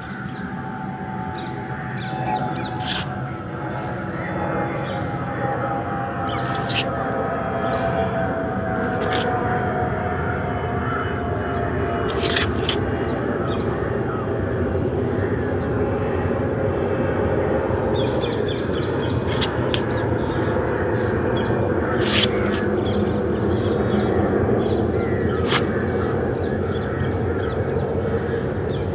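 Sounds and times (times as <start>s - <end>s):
insect droning buzz: 0.0s - 28.9s.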